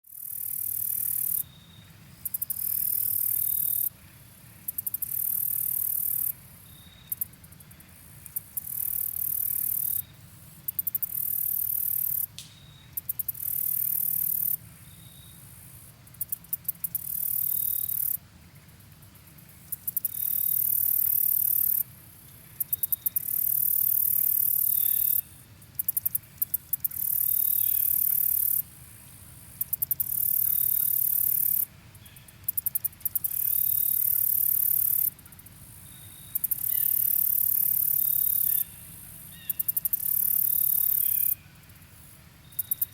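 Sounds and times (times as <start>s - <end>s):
cicada buzzing: 0.1s - 18.2s, 19.4s - 42.9s.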